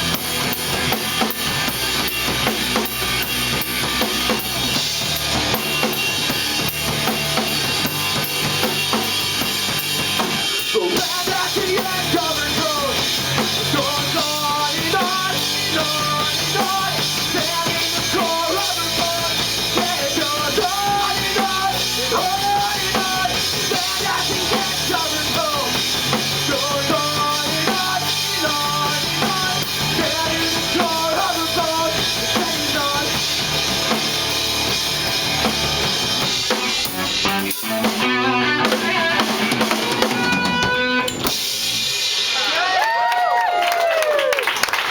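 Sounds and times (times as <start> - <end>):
bass guitar: 0.0 - 43.1
drum kit beat: 0.0 - 43.6
electric guitar: 0.0 - 43.6.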